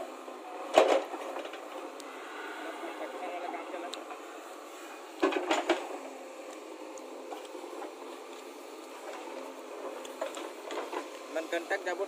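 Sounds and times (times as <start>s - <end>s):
backhoe engine and hydraulics: 0.0s - 12.0s.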